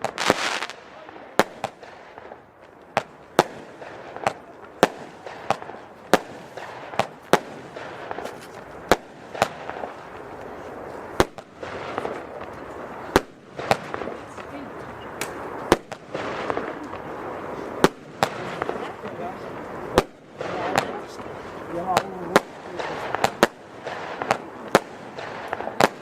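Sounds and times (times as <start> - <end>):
continuous noisy background: 0.0 - 26.0
firework bangs: 0.0 - 26.0.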